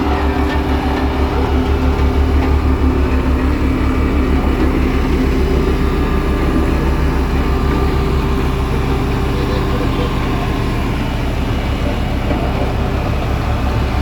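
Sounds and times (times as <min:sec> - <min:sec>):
diesel construction machinery running: 0:00.0 - 0:14.0.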